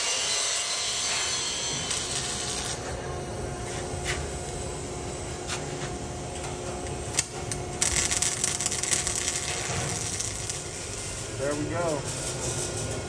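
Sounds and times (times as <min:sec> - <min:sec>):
welding arc crackling and hissing: 0:00.0 - 0:13.0.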